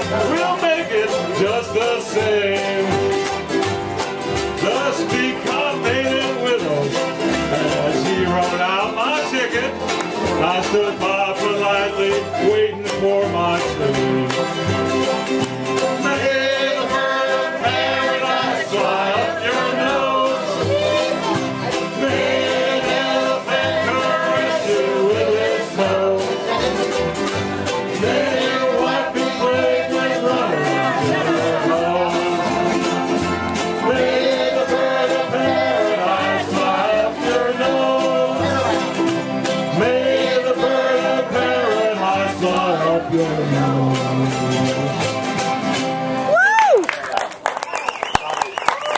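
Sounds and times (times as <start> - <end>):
string band playing country song: 0.0 - 48.9.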